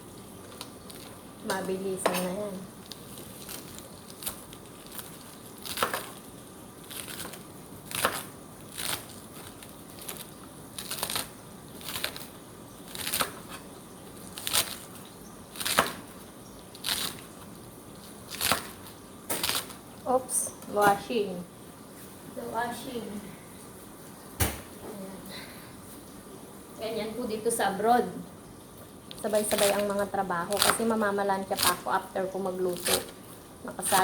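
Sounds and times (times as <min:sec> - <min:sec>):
food frying in hot oil: 0:00.0 - 0:20.5, 0:26.1 - 0:34.0.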